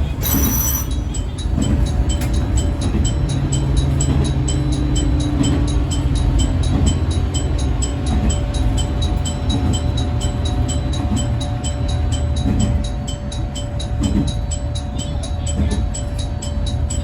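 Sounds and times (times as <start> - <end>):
diesel engine drone: 0.0 - 17.0
wheels rumbling on rails: 0.0 - 17.0.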